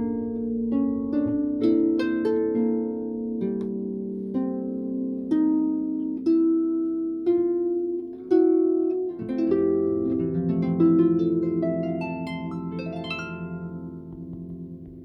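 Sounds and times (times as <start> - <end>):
harp plucked notes: 0.0 - 15.0.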